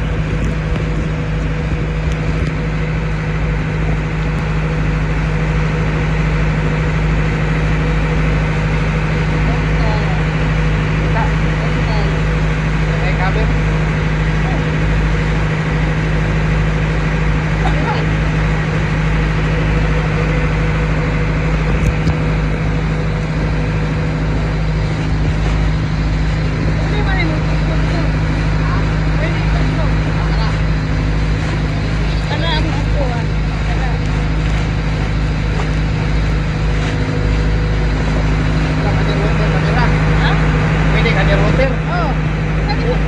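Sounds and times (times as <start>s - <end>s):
boat engine droning: 0.0s - 43.0s
rush of wind and water: 0.0s - 43.0s.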